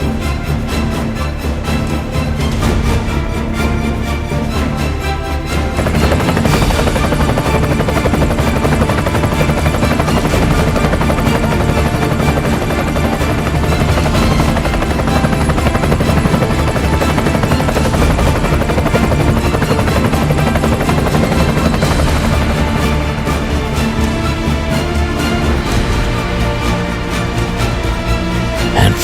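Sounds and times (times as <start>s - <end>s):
helicopter rotor chopping: 0.1s - 27.0s, 27.7s - 29.0s.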